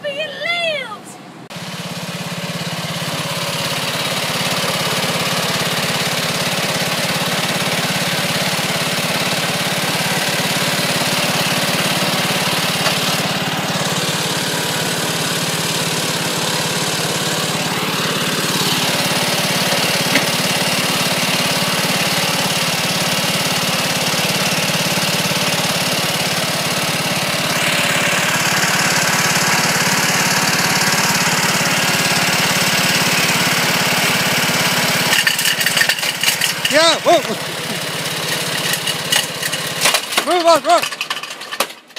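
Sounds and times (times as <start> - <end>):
lawn mower engine idling: 1.2 - 41.9.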